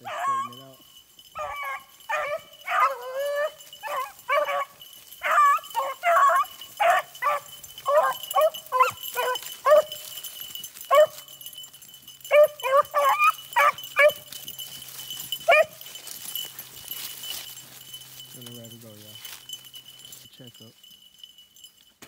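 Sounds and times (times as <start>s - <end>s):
dogs barking and yelping: 0.0s - 18.4s.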